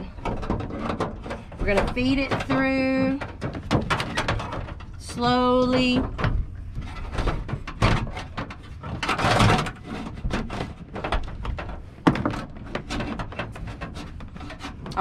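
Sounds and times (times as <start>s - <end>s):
knocks against metal: 0.1s - 13.9s.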